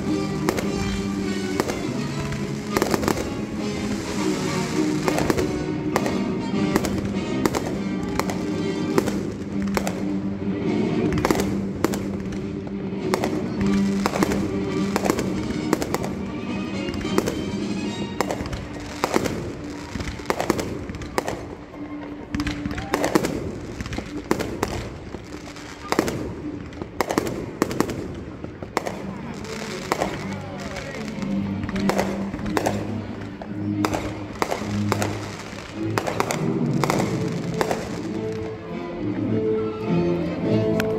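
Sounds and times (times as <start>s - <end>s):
fireworks bangs: 0.0s - 38.5s
music playing: 0.0s - 40.9s.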